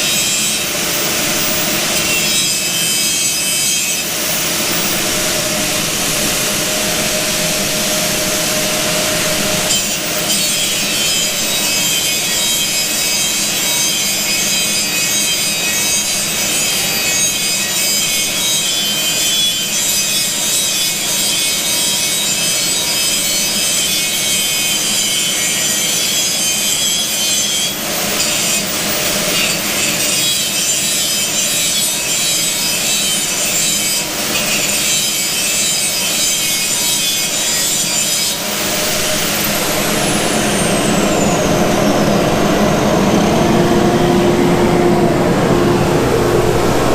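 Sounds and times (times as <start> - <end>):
power grinder grinding steel: 0.0 - 45.7.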